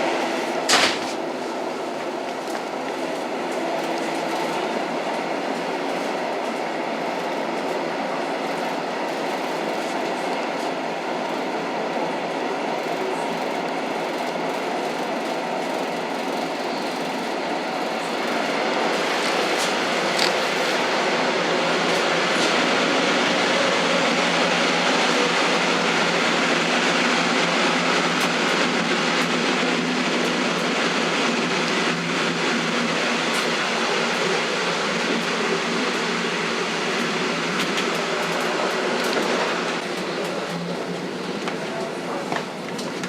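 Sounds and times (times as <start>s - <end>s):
train wheels rumbling and rattling: 0.0s - 43.0s.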